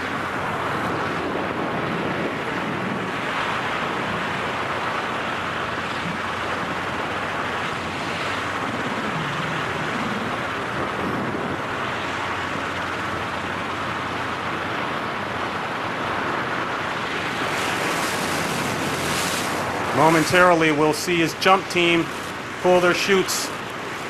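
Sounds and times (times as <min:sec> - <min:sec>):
wind rushing past microphone: 0:00.0 - 0:24.0.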